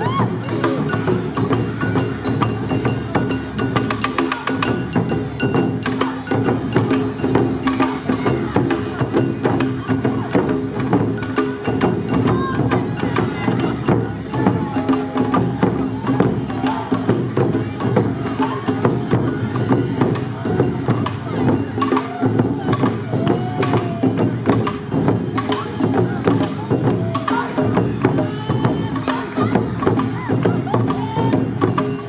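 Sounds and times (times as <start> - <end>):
large barrel drums pounding: 0.0 - 32.0.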